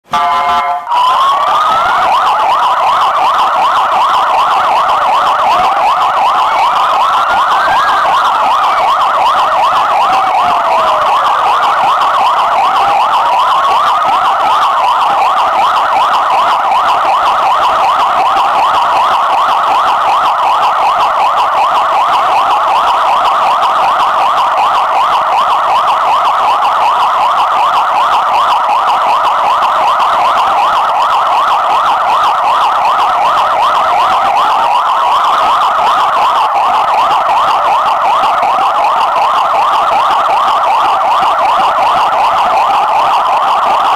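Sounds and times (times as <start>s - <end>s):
police siren yelp: 0.0s - 43.9s
siren wail: 0.1s - 43.9s.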